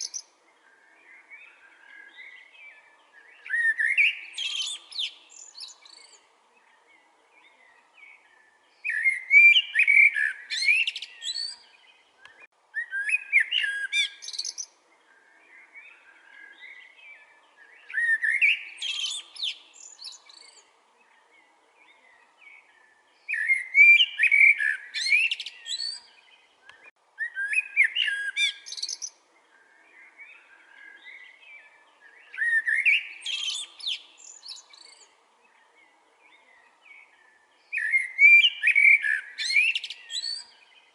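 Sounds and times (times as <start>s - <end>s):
blackbird singing: 0.0s - 40.9s
faint bird chirps: 0.0s - 40.9s.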